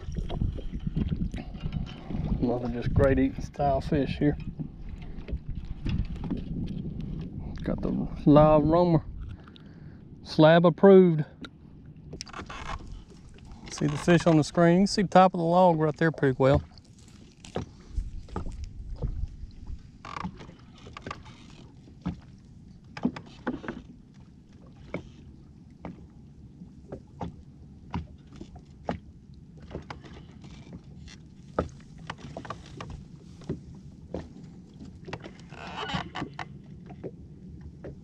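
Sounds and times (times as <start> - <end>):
water slapping against boat hull: 0.0 - 9.8, 11.4 - 38.0.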